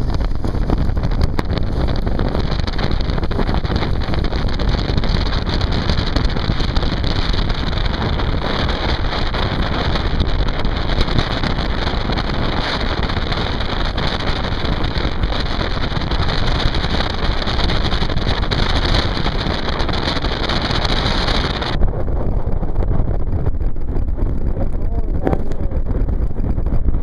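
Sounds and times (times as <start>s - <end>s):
water rushing along hull: 0.0s - 21.8s
wind buffeting microphone: 0.0s - 27.0s.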